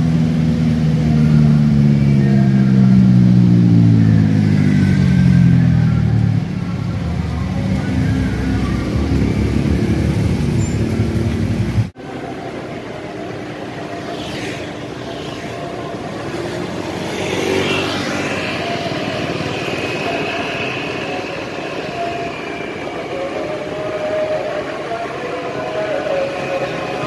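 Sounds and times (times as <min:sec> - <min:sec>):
engines and tyres rushing: 0:00.0 - 0:27.0.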